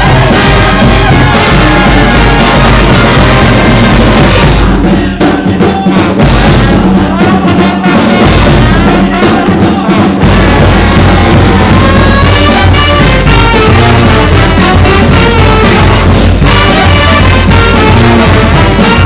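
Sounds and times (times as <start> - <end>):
brass band music: 0.0 - 19.0.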